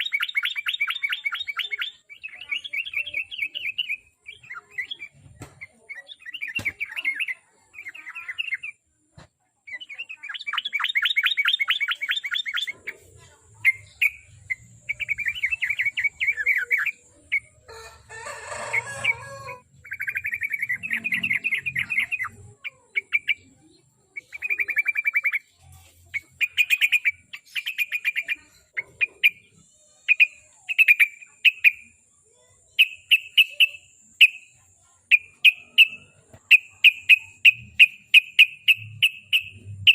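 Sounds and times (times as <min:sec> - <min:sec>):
bulbul singing chattering notes: 0:00.0 - 0:08.8, 0:09.7 - 0:17.6, 0:18.7 - 0:32.0, 0:32.7 - 0:39.9.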